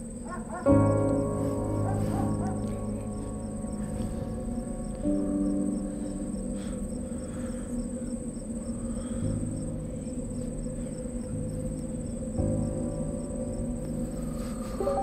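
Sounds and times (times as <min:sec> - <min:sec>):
crickets trilling: 0:00.0 - 0:15.0
low droning tones: 0:00.0 - 0:15.0.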